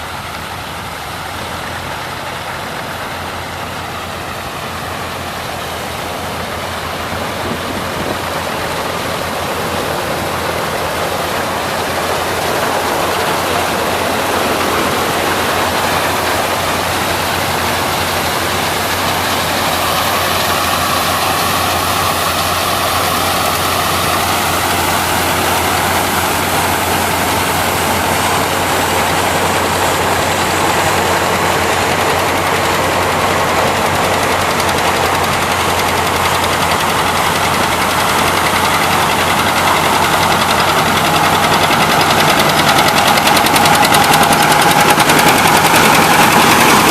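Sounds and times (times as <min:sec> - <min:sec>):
harvesting machine engine running: 0:00.0 - 0:46.9.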